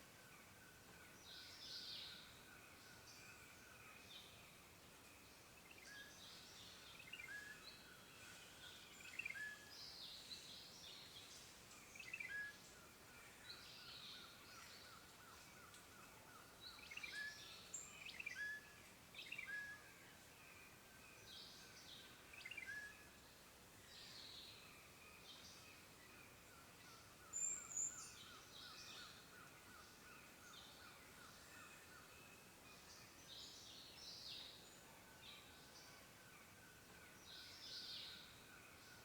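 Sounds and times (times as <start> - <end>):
soft steady hiss: 0.0 - 39.0.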